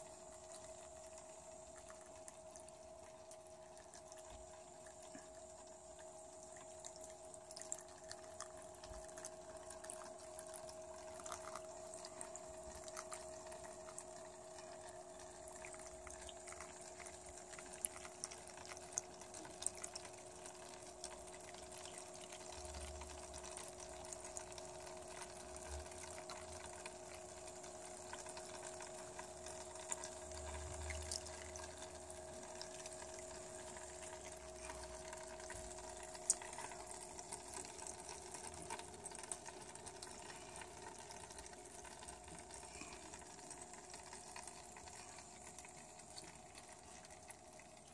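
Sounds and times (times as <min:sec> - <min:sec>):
faint steady pump hum: 0:00.0 - 0:47.9
water trickling and dripping: 0:00.0 - 0:47.9.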